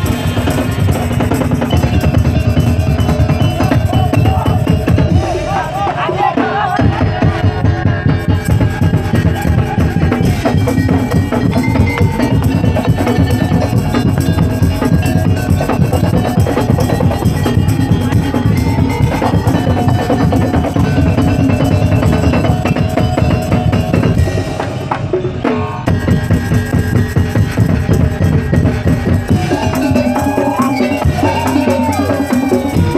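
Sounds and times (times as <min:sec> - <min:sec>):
drum ensemble playing: 0:00.0 - 0:32.9
wooden percussion: 0:00.0 - 0:32.9
melodic lines: 0:00.1 - 0:06.0, 0:07.4 - 0:24.5, 0:29.3 - 0:32.9.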